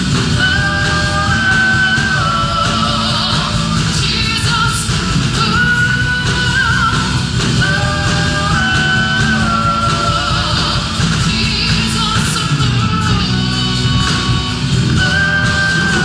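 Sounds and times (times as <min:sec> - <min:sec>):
rock band playing: 0:00.0 - 0:16.0
woman singing: 0:00.0 - 0:16.0.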